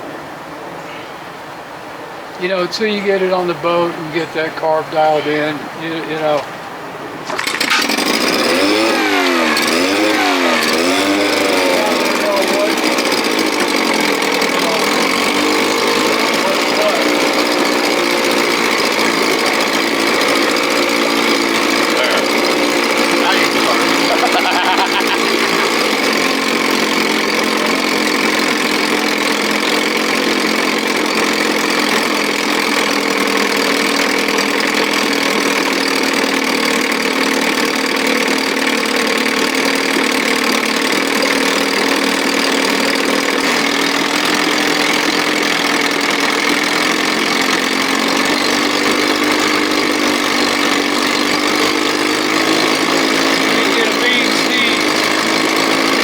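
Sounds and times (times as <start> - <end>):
outboard motor running: 1.8 - 56.0.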